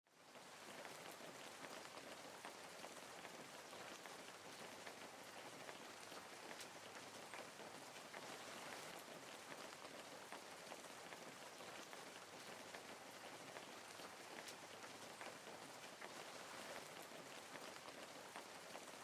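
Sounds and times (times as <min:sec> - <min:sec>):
raindrops ticking: 0:00.1 - 0:19.0
steady rain hiss: 0:00.1 - 0:19.0.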